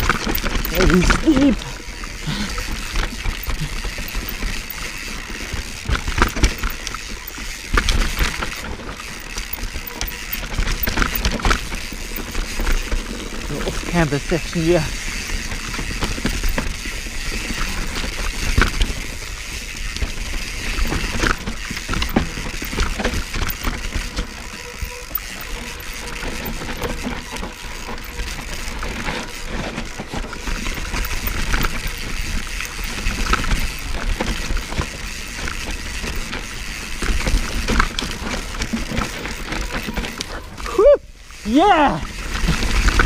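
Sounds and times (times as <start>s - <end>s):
bike clacking and rattling: 0.0s - 43.0s
tyres on loose dirt: 0.0s - 43.0s.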